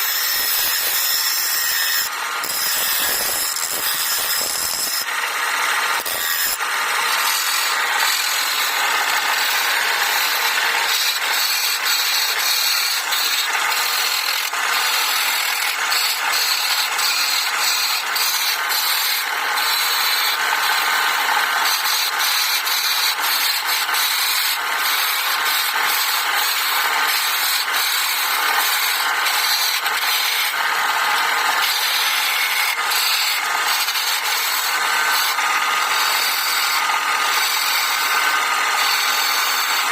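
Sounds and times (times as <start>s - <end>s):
tool scraping wood: 0.0s - 39.9s.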